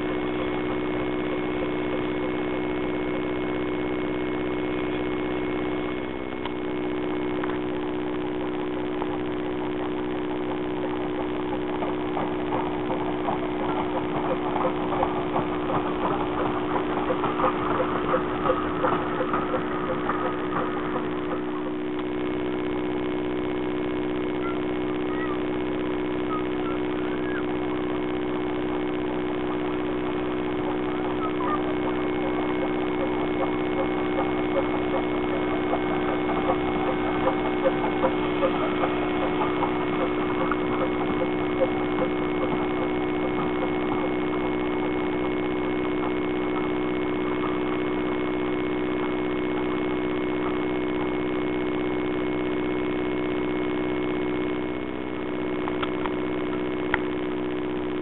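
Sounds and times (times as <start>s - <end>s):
steady hum: 0.0s - 58.0s
steam engine exhaust beats: 0.0s - 58.0s.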